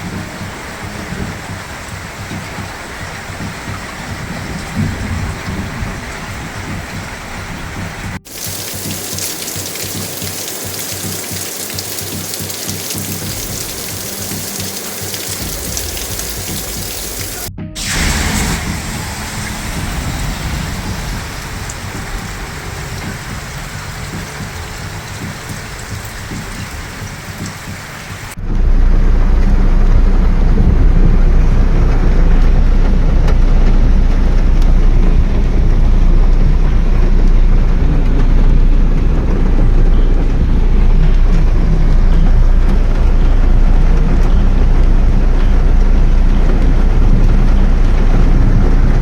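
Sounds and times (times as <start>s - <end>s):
heavy rain: 0.0s - 49.0s
loud deep rushing noise: 0.0s - 49.0s.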